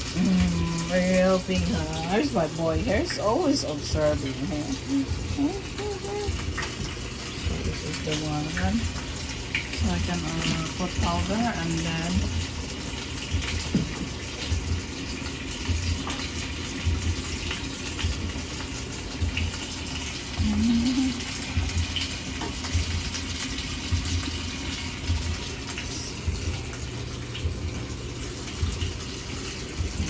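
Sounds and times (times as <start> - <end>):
water gushing into washing machine: 0.0 - 30.0.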